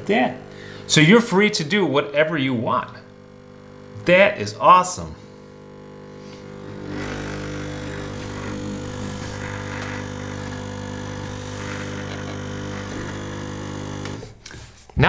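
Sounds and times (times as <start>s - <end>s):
espresso machine pump buzzing: 0.0s - 14.5s.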